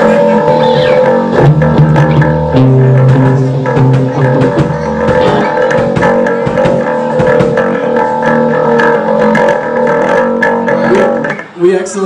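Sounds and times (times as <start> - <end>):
live rock band playing: 0.0 - 11.6.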